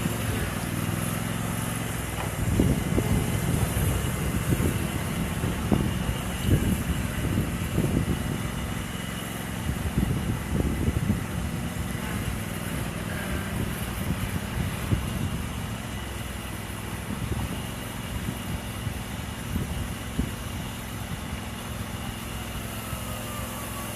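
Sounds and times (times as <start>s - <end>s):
lawn mower engine running: 0.0s - 23.9s.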